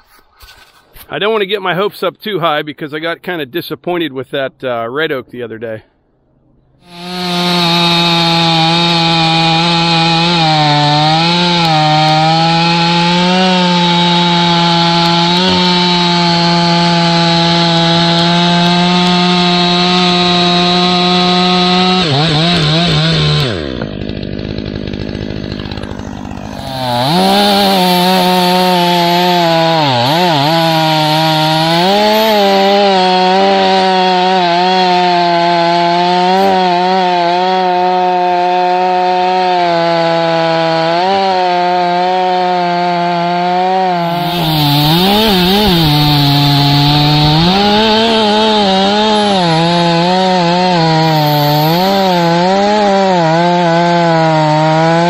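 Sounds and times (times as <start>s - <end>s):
chainsaw cutting log: 6.8s - 55.0s.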